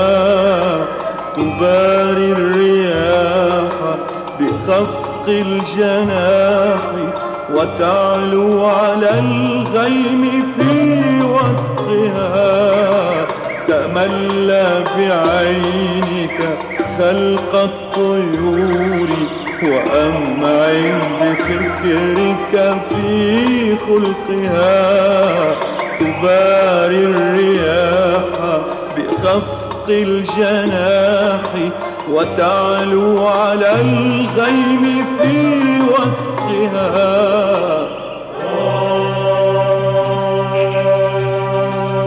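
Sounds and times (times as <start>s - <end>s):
low sustained accompanying notes: 0.0s - 42.0s
ornamented wavering melody: 0.0s - 42.0s.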